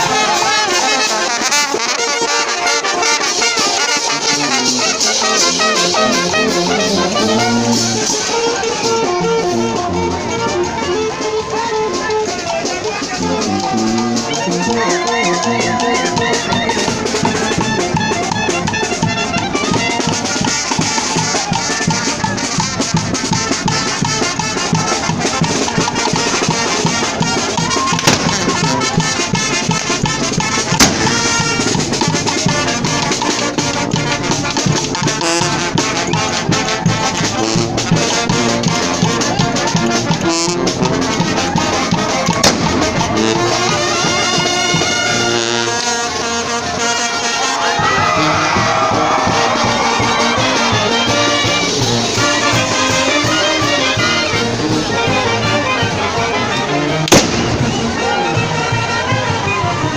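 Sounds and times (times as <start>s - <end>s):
brass band playing dance music: 0.0s - 59.9s.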